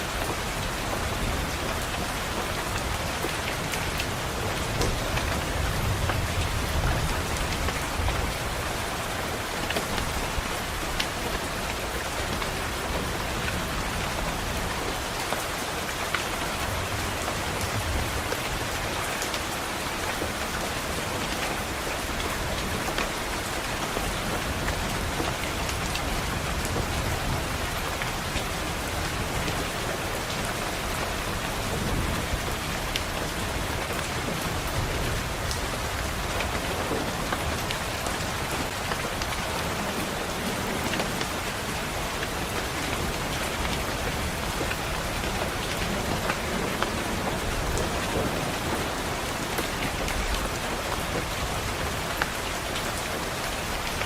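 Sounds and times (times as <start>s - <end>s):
rain pattering on a window: 0.0s - 54.0s.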